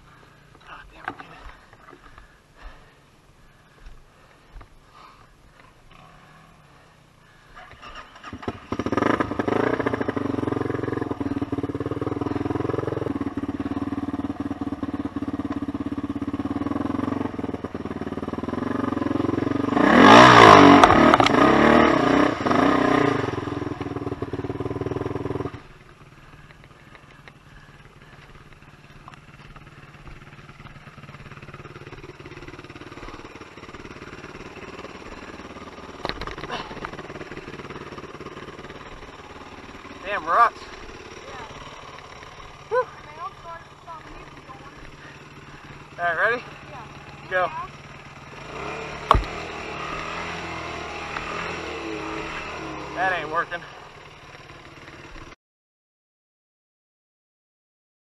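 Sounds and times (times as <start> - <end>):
quad engine revving: 7.4 - 55.4.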